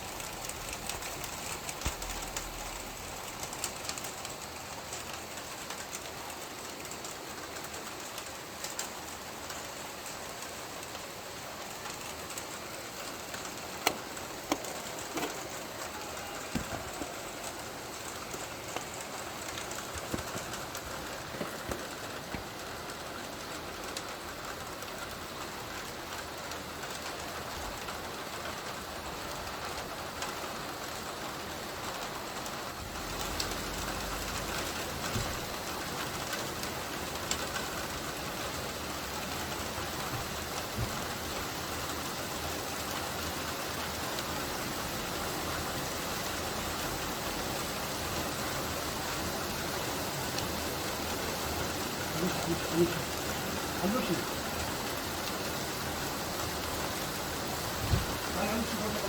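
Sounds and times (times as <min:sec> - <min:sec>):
light rain pattering: 0:00.0 - 0:59.0.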